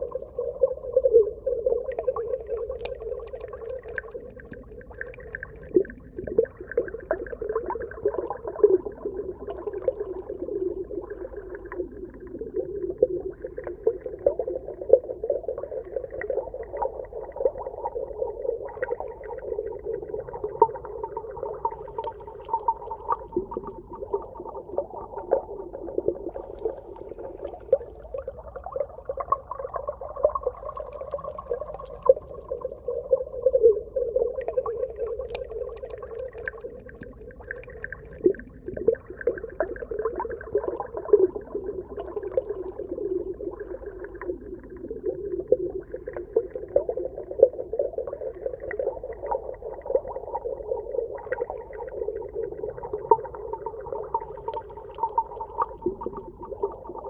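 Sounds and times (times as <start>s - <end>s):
underwater clicks and crackles: 0.0s - 57.0s.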